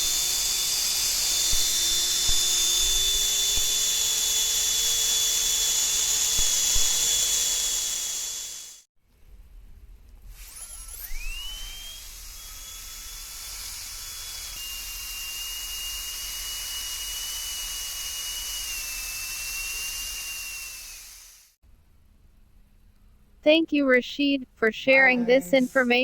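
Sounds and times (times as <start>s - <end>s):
dental drill whining: 0.0s - 8.9s, 10.3s - 21.6s, 24.8s - 26.0s.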